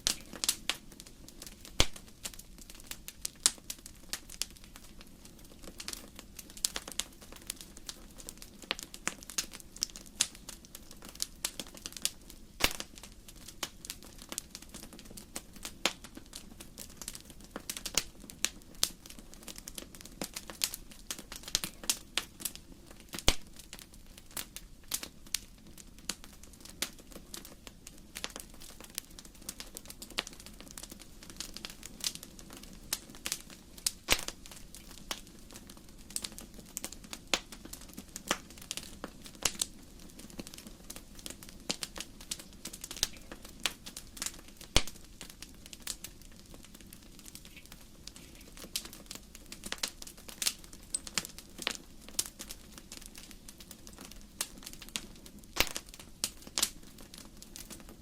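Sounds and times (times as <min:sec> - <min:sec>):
logs crackling and popping: 0:00.0 - 0:58.0.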